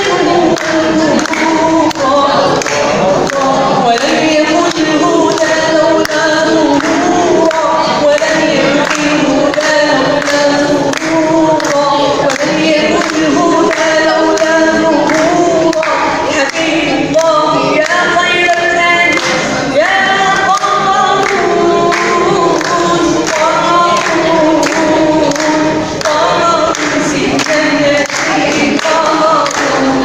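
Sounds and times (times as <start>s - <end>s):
man singing devotional song: 0.0s - 30.0s.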